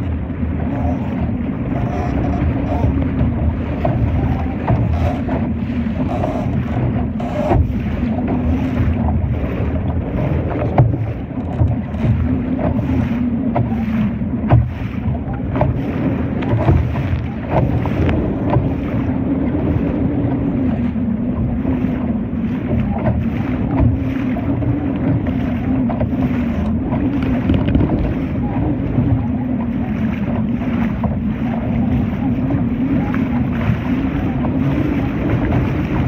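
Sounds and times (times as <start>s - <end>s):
steady low hum: 0.0s - 36.0s
water slapping against hull: 0.0s - 36.0s
wind buffeting microphone: 0.0s - 36.0s.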